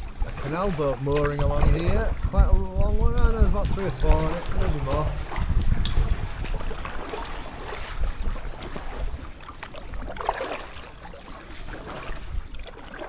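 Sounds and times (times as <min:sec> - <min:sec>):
paddle splashes in water: 0:00.0 - 0:13.0
wind rumble on microphone: 0:00.0 - 0:13.0.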